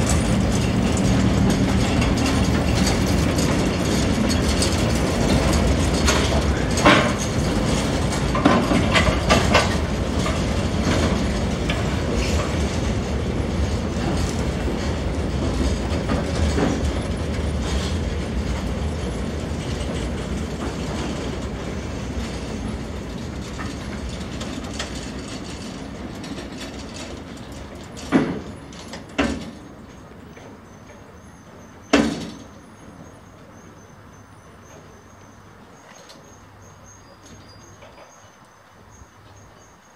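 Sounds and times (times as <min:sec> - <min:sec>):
train engine and wheels rumbling: 0:00.0 - 0:39.9.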